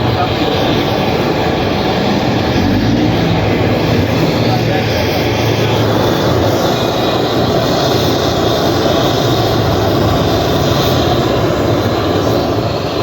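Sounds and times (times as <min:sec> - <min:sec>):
loud machine noise: 0:00.0 - 0:13.0
low hum: 0:00.0 - 0:13.0.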